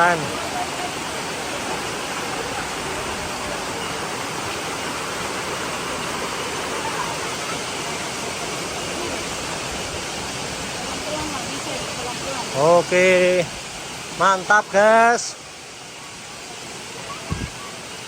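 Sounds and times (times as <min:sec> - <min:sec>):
waterfall crashing into pool: 0:00.0 - 0:18.0.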